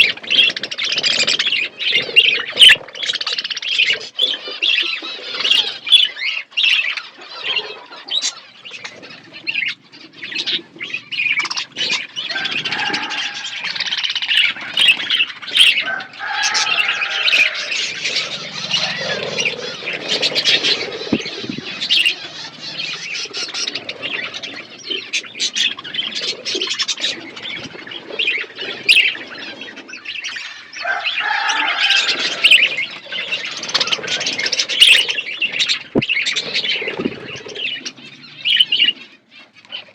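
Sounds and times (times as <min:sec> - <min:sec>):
bird squawks: 0:00.0 - 0:39.9
budgerigars chattering: 0:00.0 - 0:39.9.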